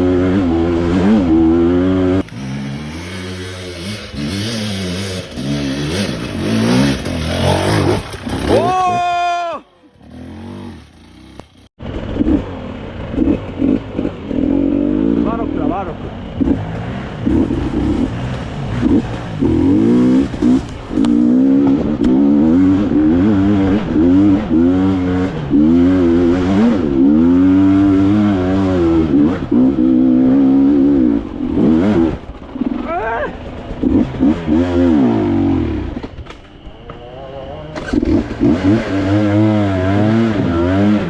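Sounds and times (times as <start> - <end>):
dirt bike engine revving: 0.0 - 36.1, 36.8 - 41.0.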